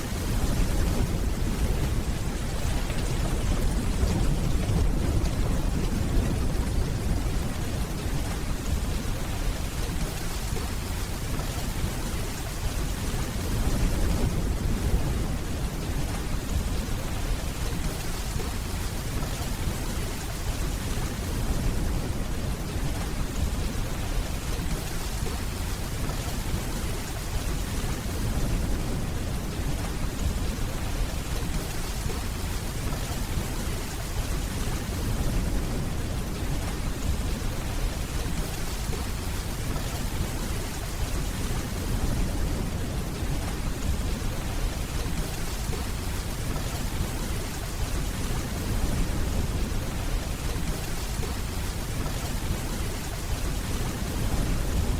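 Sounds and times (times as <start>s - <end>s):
heavy rainfall: 0.0s - 54.9s.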